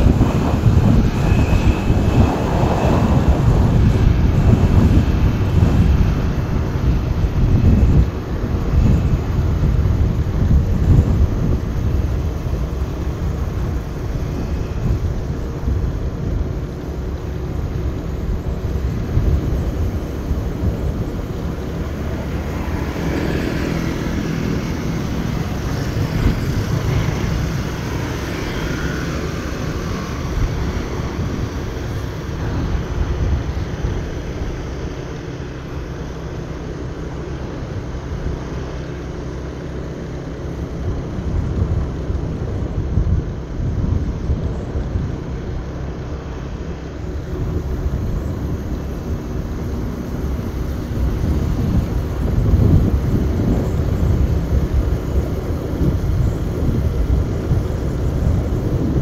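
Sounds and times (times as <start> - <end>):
motorbike engine drone: 0.0 - 59.0
passing motorbike engine: 0.0 - 59.0
wind buffeting microphone: 0.0 - 59.0.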